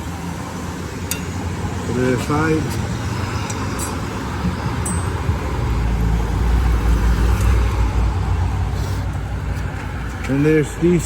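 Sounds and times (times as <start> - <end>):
low vehicle rumble: 0.0 - 11.0
road traffic noise: 0.0 - 11.0.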